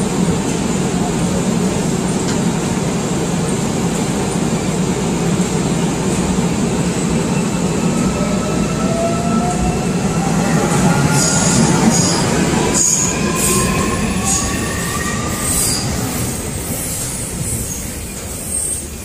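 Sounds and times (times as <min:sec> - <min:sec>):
subway train running: 0:00.0 - 0:19.0.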